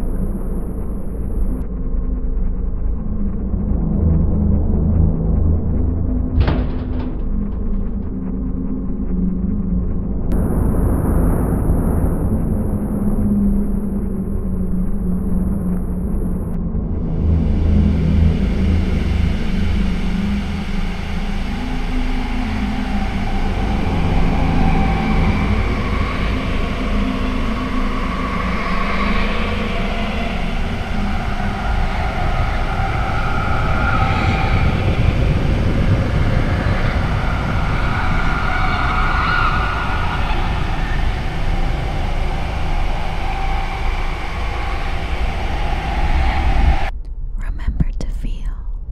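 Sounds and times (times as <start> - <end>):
low droning tones: 0.0 - 48.9
steady low rumble: 0.0 - 48.9.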